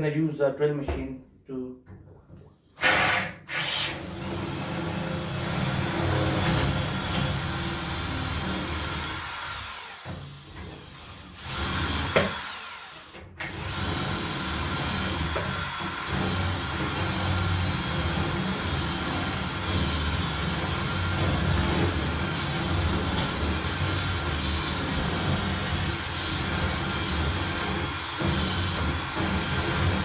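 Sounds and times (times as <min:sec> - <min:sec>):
electric drill drilling metal: 0:02.8 - 0:30.0.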